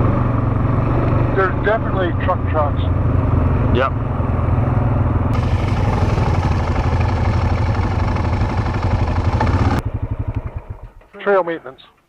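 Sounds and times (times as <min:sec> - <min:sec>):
atv engine running: 0:00.0 - 0:11.2.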